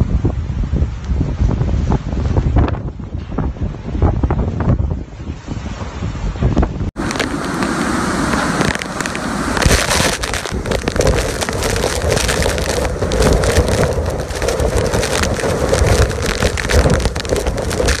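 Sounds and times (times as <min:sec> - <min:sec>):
wind and heavy rain on microphone: 0:00.0 - 0:18.0
surf: 0:01.3 - 0:18.0.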